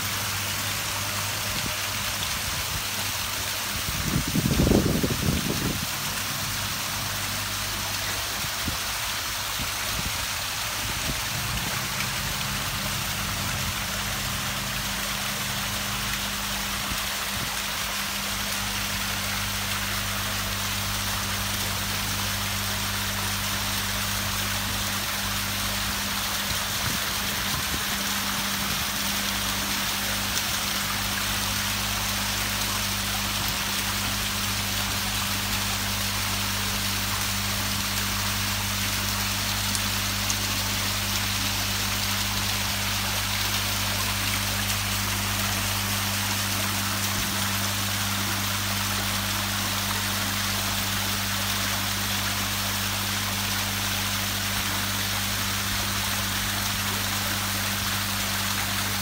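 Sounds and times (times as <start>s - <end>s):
waterfall splashing into pond: 0.0s - 59.0s.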